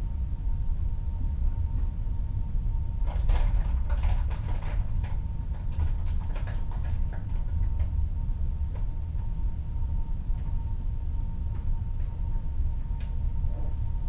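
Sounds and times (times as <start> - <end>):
faint steady hum: 0.0 - 14.0
low rumble of sea and ship: 0.0 - 14.0.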